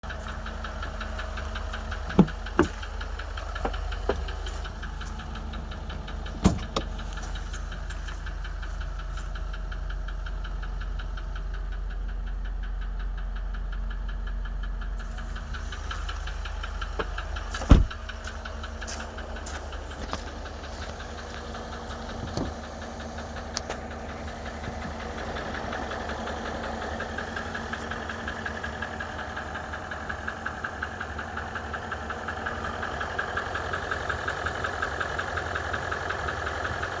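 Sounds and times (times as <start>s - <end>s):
car engine idling: 0.0s - 37.0s
engine knocking: 0.0s - 37.0s.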